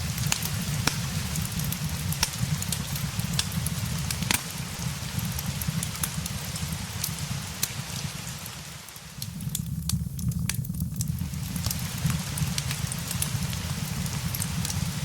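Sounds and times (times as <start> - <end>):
fireplace crackling: 0.0 - 15.0
rain hiss: 0.0 - 15.0.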